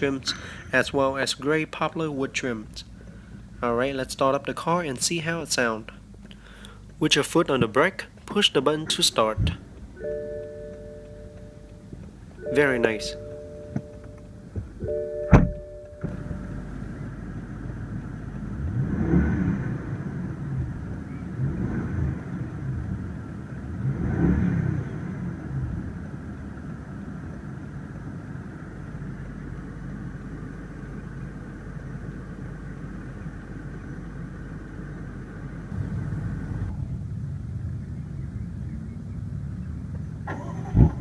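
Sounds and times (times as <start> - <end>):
car engine idling and revving: 5.2 - 41.0.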